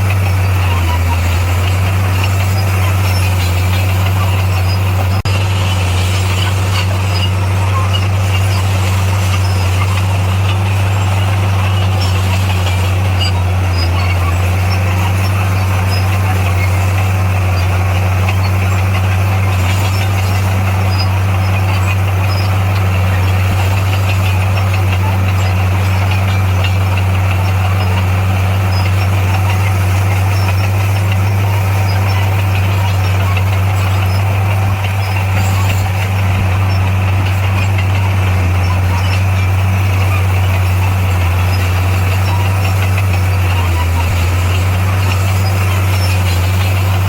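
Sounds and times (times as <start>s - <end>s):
heavy diesel engine droning: 0.0s - 47.0s.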